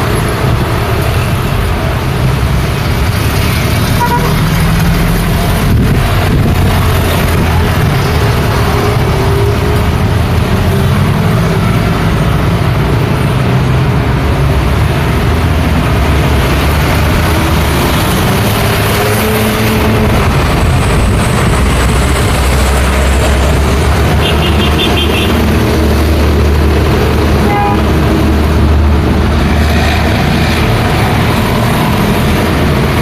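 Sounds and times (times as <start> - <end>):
road traffic rumble: 0.0 - 33.0
vehicles passing: 0.0 - 33.0.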